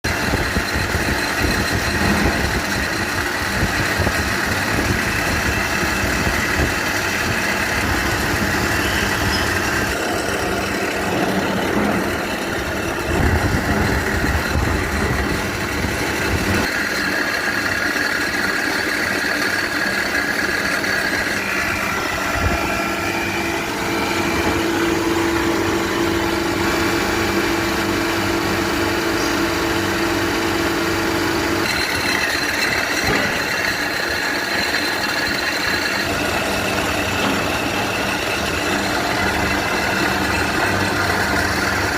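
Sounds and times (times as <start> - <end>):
milling machine cutting metal: 0.0 - 41.9.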